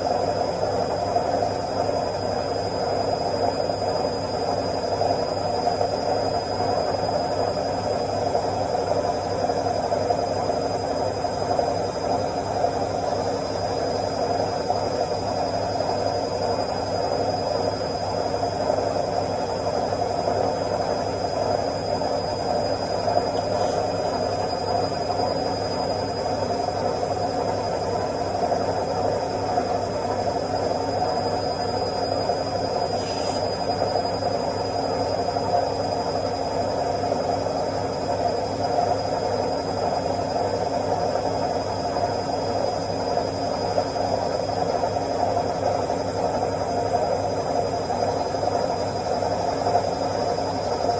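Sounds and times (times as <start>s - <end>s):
faint high whine: 0.0s - 50.9s
washing machine spinning: 0.0s - 50.9s.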